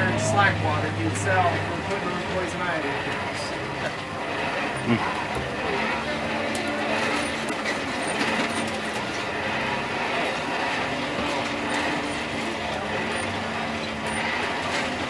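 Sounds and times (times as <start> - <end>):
forge blower humming: 0.0 - 15.0.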